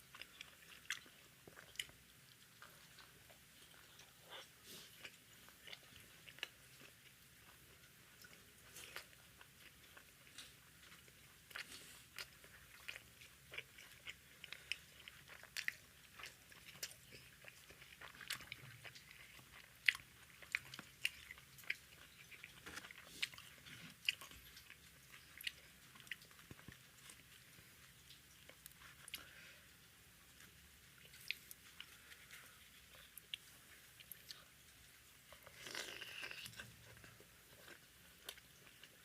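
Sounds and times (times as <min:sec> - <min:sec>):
person chewing: 0:00.0 - 0:39.0.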